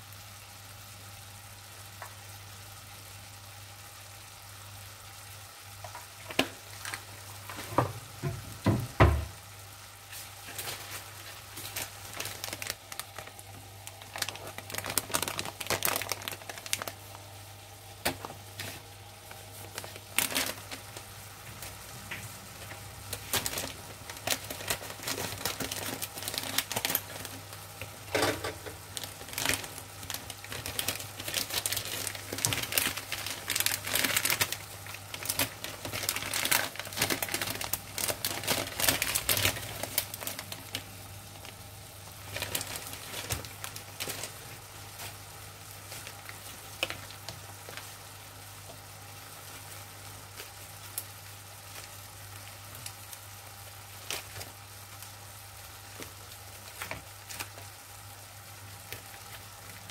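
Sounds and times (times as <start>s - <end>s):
vegetables sizzling in oil: 0.0s - 59.9s
plastic packet crinkling: 5.8s - 7.8s, 10.4s - 21.8s, 22.5s - 48.5s, 49.4s - 55.1s, 55.8s - 59.9s.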